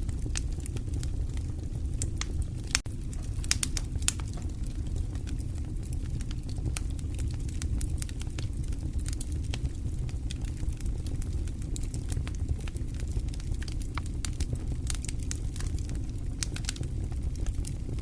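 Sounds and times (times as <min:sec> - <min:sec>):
fire crackles and pops: 0:00.0 - 0:18.0
low rumble of flames: 0:00.0 - 0:18.0.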